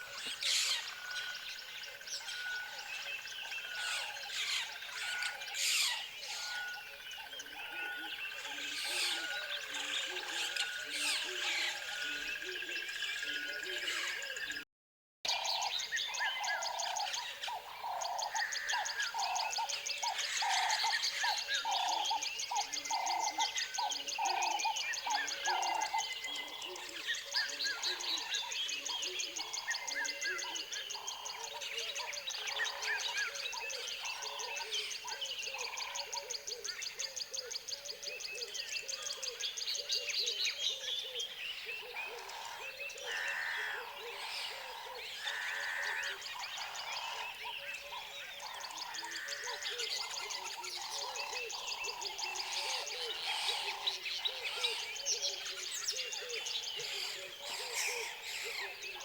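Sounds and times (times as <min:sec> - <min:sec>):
birds chirping and calling: 0:00.0 - 0:14.6, 0:15.3 - 0:59.0.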